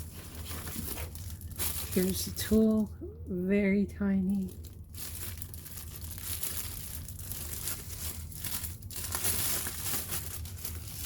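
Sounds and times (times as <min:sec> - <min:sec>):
packaging rustling and crinkling: 0:00.0 - 0:02.8, 0:04.3 - 0:11.0.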